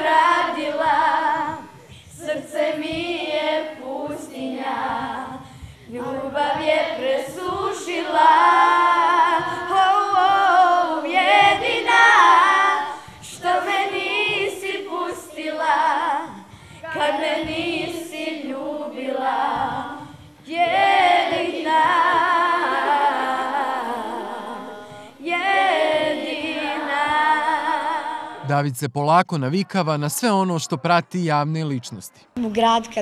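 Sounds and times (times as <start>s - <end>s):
children singing together: 0.0s - 28.4s.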